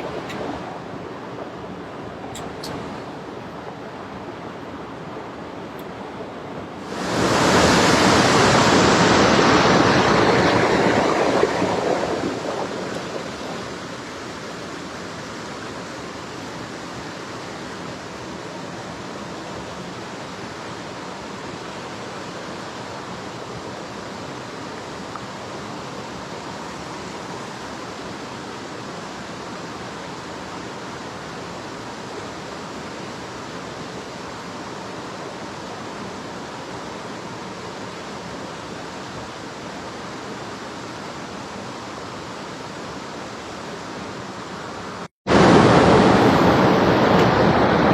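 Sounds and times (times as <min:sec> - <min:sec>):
stream running water: 0:00.0 - 0:47.9.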